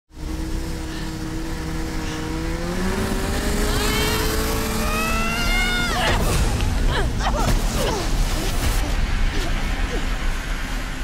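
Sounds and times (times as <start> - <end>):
snowmobile engine revving: 0.2 - 10.2.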